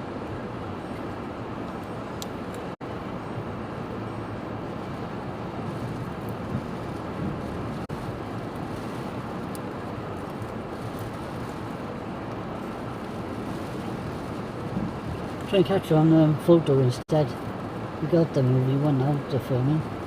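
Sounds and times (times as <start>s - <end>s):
rough sea: 0.0s - 20.0s
wind buffeting microphone: 0.0s - 20.0s.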